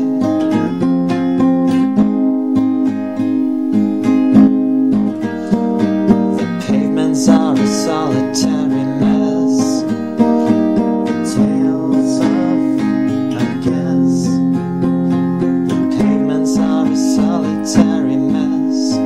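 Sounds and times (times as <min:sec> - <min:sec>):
strummed acoustic guitar song: 0:00.0 - 0:19.0.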